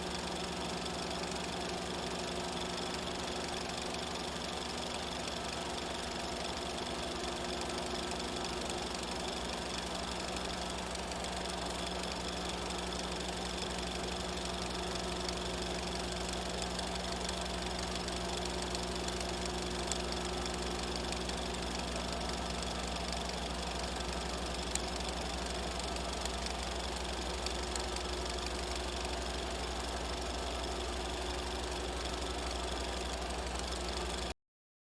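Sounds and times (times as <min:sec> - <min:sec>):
film projector clatter: 0:00.0 - 0:34.4.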